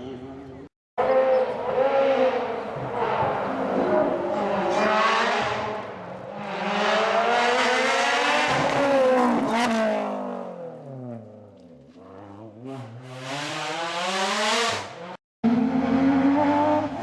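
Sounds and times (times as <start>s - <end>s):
rally car engine revving: 1.0s - 17.0s.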